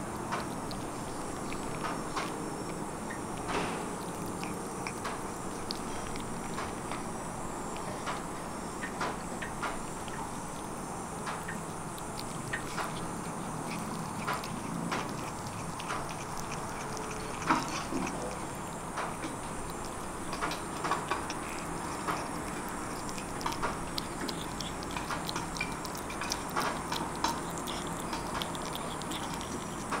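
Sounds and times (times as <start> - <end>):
kitten chewing food: 0.0 - 30.0.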